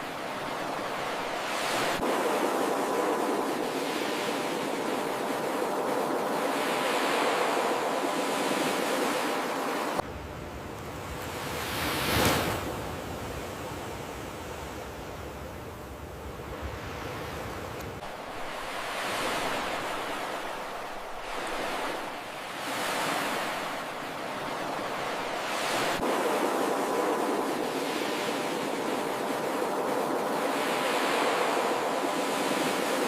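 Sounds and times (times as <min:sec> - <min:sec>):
waves breaking on beach: 0:00.0 - 0:10.1, 0:10.9 - 0:15.0, 0:16.5 - 0:33.0.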